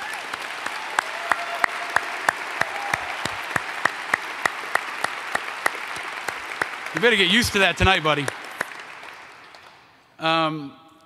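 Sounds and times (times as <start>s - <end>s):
audience applauding: 0.0s - 10.0s
close hand claps: 0.0s - 10.0s.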